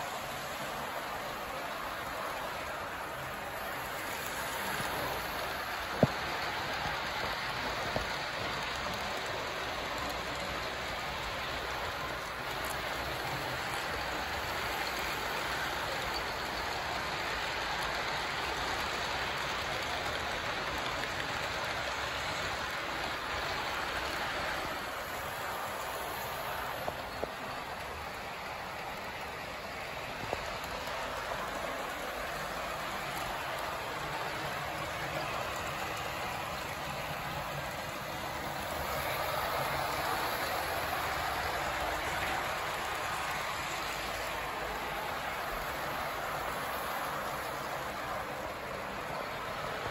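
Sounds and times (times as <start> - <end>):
model train wheels rattling on rails: 0.0 - 49.9.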